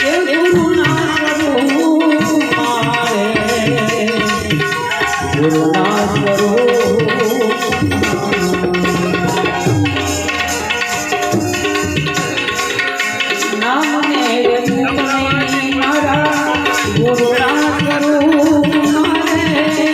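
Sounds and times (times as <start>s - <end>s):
tabla playing rhythm: 0.0s - 19.9s.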